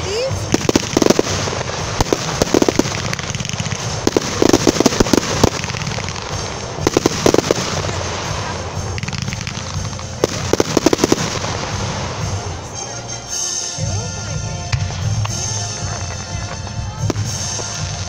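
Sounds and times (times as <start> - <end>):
continuous rumble: 0.0 - 18.0
fireworks bangs: 0.0 - 18.0
fireworks crackling pops: 0.0 - 18.0.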